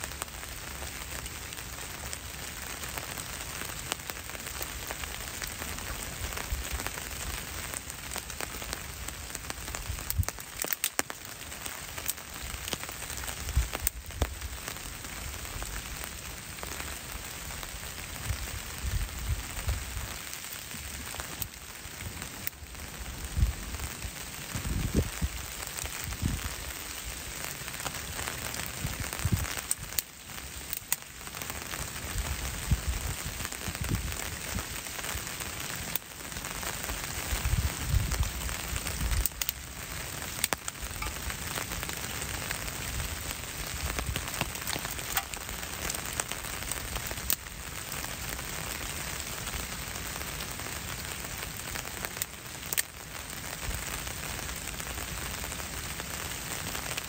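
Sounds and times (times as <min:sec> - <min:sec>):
rain pattering on leaves: 0:00.0 - 0:57.0
twig fire crackling: 0:00.0 - 0:57.0.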